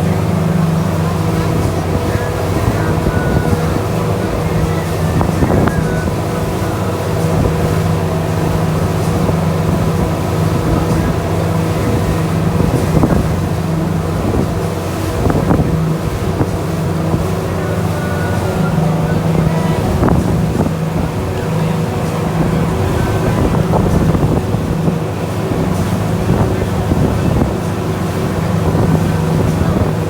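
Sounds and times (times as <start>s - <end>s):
boat engine running: 0.0s - 30.0s
wind buffeting microphone: 0.0s - 30.0s.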